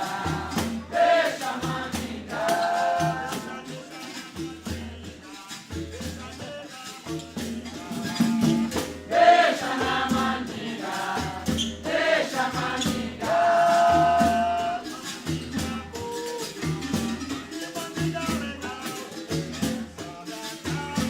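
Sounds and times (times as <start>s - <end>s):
drum beat: 0.0s - 3.8s, 7.1s - 21.0s.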